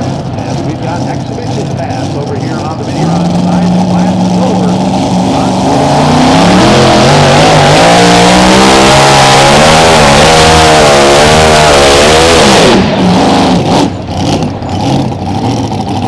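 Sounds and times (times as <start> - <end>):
tractor engine at full throttle: 0.0 - 16.0.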